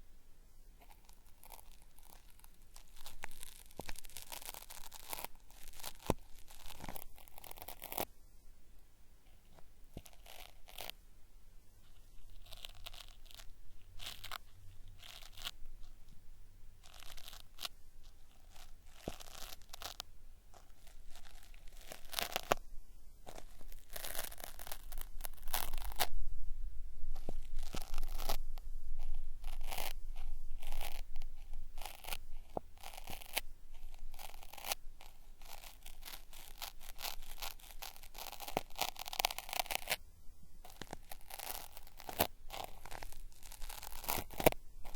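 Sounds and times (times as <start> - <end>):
cotton swab rubbing microphone: 0.8 - 8.1, 9.2 - 11.0, 11.7 - 16.2, 16.8 - 44.9.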